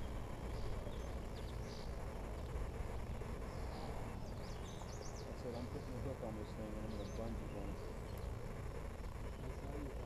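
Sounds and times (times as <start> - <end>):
low steady rumble: 0.0 - 10.0
small birds chirping: 0.0 - 10.0.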